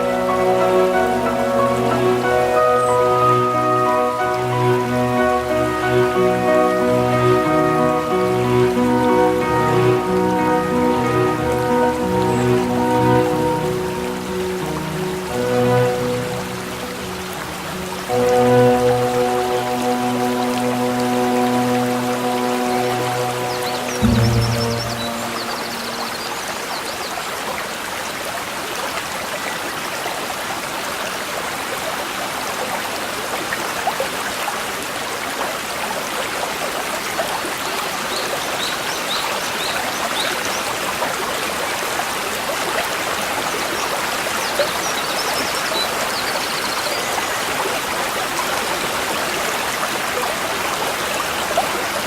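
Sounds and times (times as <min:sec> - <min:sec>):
stream babbling over stones: 0:00.0 - 0:52.0.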